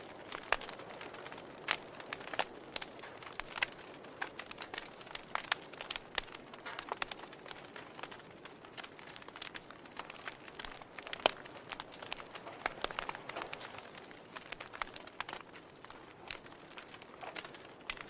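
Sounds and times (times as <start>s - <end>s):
fire snaps and pops: 0.0s - 18.0s
wood fire crackling: 0.0s - 18.0s.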